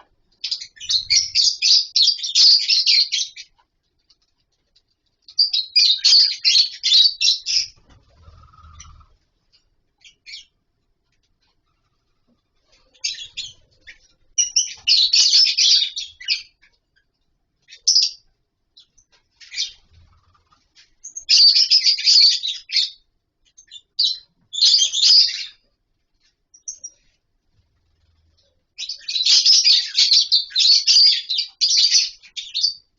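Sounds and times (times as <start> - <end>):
lovebirds chirping: 0.0 - 32.9.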